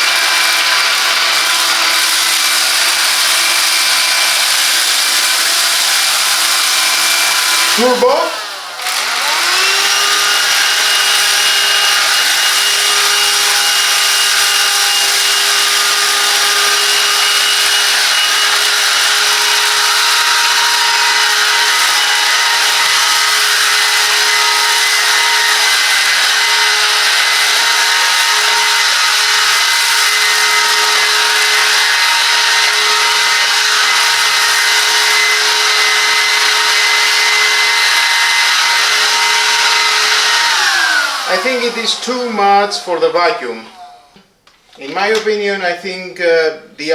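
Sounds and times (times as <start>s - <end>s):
vacuum cleaner motor whine: 0.0s - 44.3s.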